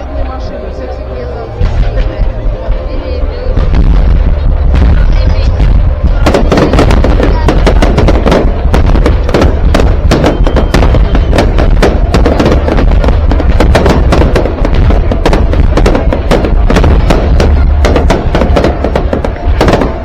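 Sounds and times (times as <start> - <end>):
fireworks bangs and crackles: 0.0 - 20.0
heavy low rumble: 0.0 - 20.0
music playing: 0.0 - 20.0.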